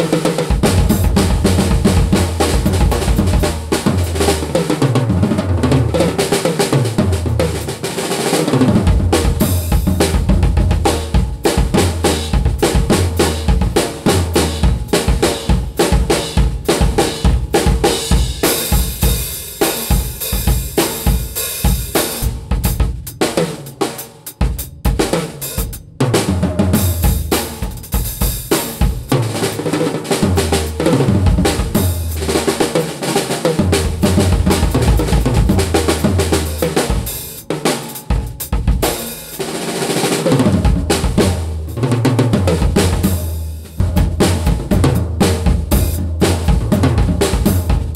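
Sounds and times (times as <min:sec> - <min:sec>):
drum kit playing grooves: 0:00.0 - 0:47.9.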